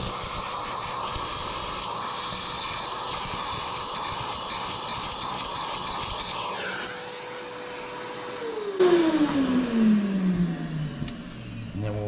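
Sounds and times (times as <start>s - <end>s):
shop vac motor hum: 0.0s - 12.0s.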